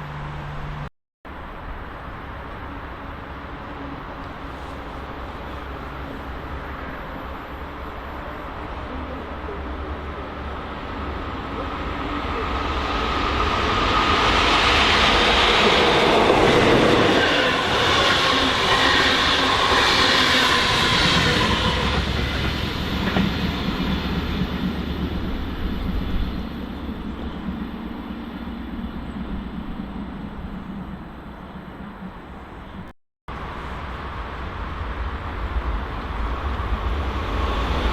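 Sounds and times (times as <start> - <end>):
train passing: 0.0 - 37.9.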